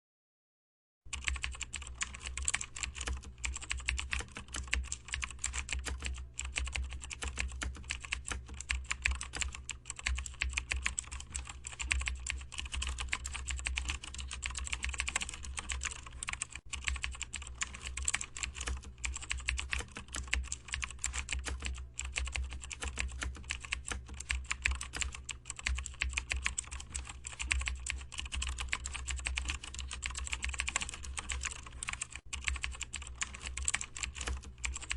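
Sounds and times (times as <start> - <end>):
computer keyboard typing: 1.1 - 34.9.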